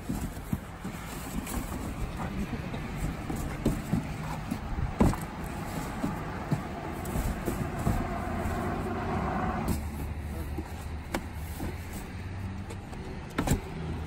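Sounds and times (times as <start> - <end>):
cardboard boxes knocking and scraping: 0.0 - 12.2
steady outdoor rumble: 0.0 - 14.0.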